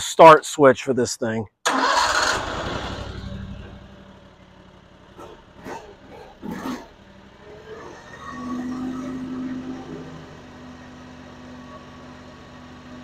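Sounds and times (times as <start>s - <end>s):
loader engine starting and idling: 1.6s - 13.0s.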